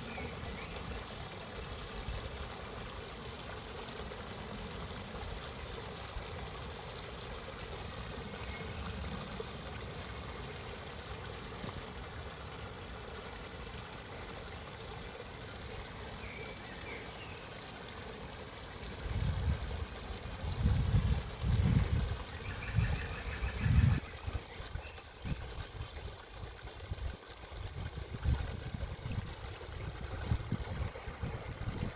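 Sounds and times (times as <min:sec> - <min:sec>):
stream flowing: 0:00.0 - 0:31.9.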